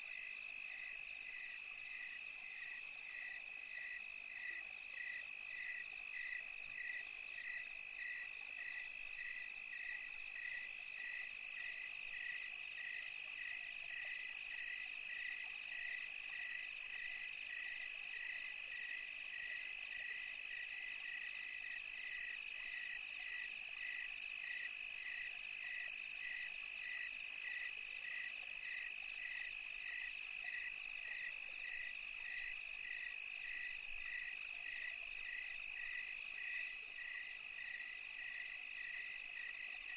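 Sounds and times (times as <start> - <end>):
insects trilling and chirping: 0.0 - 39.9.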